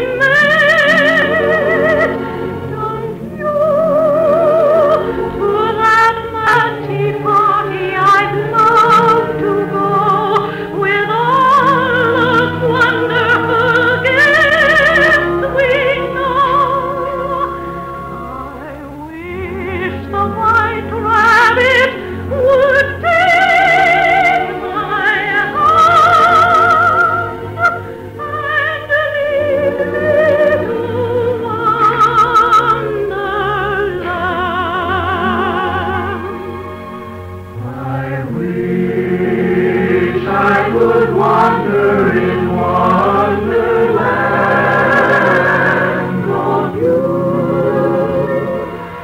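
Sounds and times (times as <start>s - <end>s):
operatic singer with vibrato: 0.0s - 49.0s
orchestral accompaniment: 0.0s - 49.0s.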